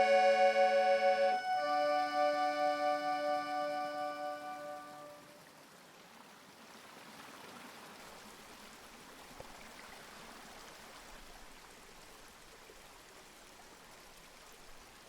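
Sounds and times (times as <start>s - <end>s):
running water: 1.6s - 15.0s.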